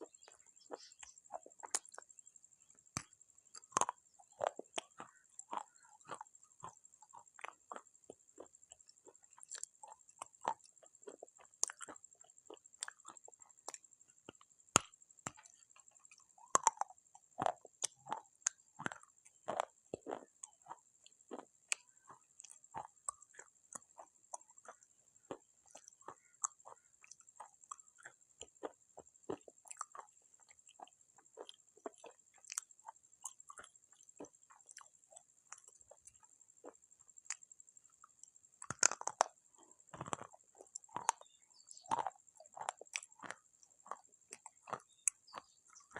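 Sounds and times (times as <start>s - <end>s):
chewing and crunching clay pot: 0.0s - 45.9s.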